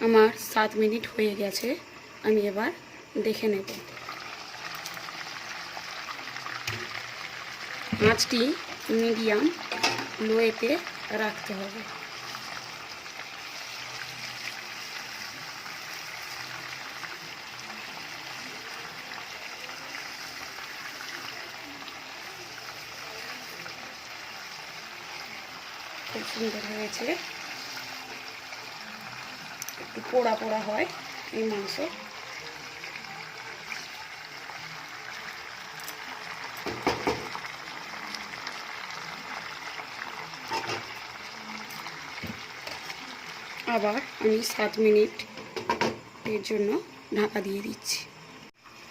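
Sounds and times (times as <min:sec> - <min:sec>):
chicken sizzling in oil: 0:00.0 - 0:48.9.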